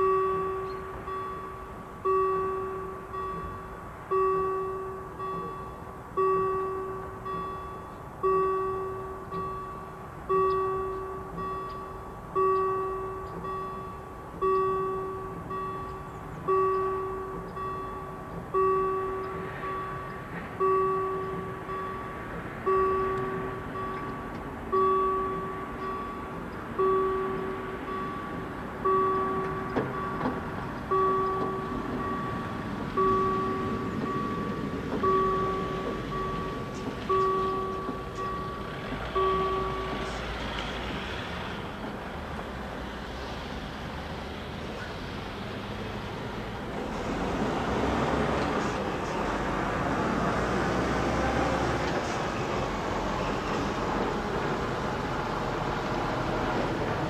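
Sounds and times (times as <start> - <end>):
level crossing warning bell: 0.0 - 57.0.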